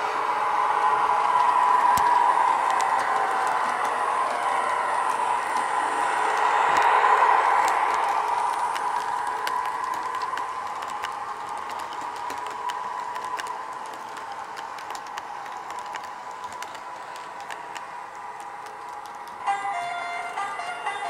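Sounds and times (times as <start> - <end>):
electric locomotive whine: 0.0 - 21.0
model train wheels clicking: 0.0 - 21.0.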